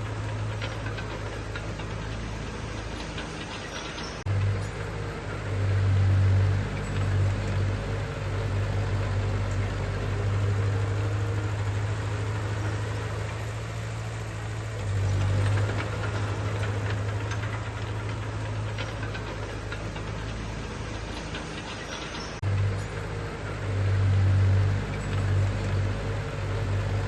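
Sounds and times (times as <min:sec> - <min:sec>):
construction machine engine humming: 0:00.0 - 0:27.0.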